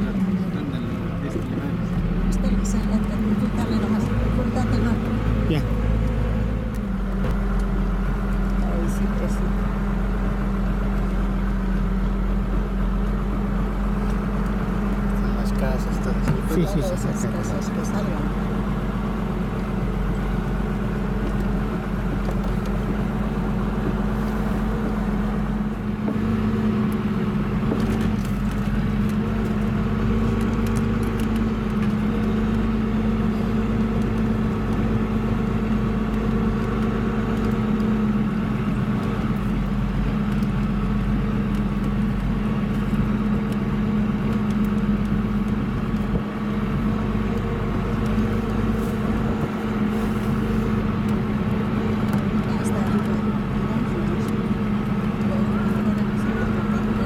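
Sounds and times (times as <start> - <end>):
car engine running: 0.0 - 57.0
road noise: 0.0 - 57.0.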